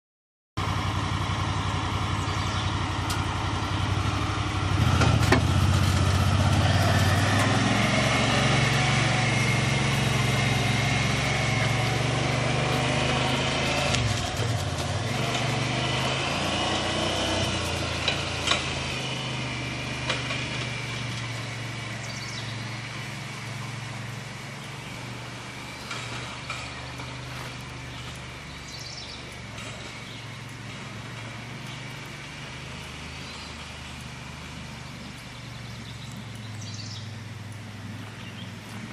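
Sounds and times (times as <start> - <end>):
utility vehicle engine running: 0.6 - 38.9.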